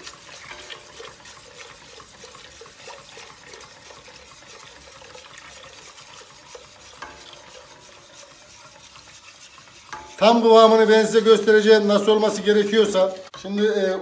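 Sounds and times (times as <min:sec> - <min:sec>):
batter being poured: 0:00.0 - 0:13.2
whisk ticking against metal pot: 0:00.0 - 0:14.0.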